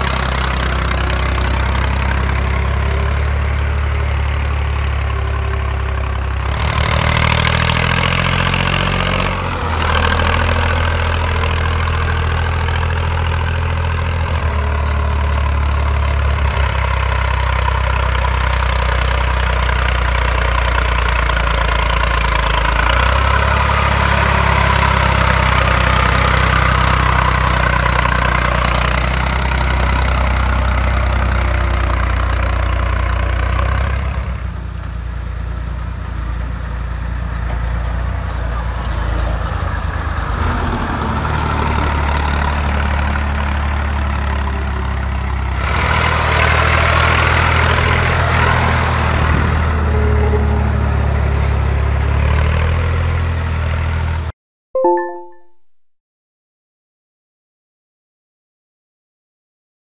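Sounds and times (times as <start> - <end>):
tractor diesel engine: 0.0 - 54.3.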